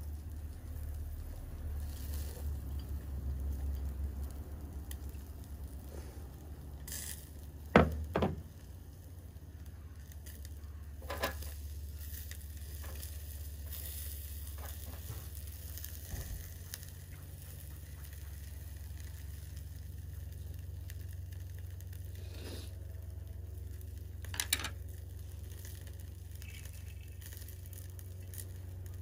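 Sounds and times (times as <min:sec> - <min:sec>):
meat sizzling on a grill: 0:00.0 - 0:29.0.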